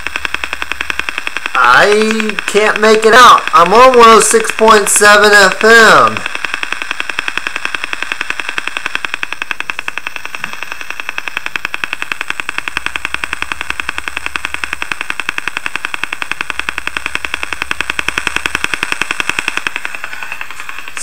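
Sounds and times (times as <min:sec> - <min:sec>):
fast ticking through a radio: 0:00.0 - 0:21.0.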